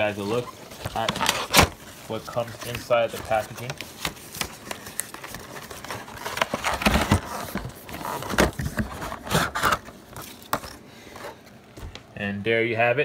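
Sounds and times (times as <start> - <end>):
cardboard box handled: 0.3 - 11.9.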